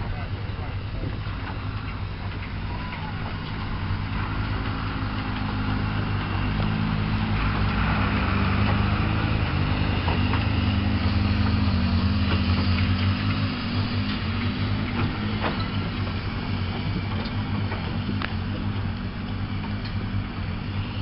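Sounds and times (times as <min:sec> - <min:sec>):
steam traction engine rumbling: 0:00.0 - 0:21.0.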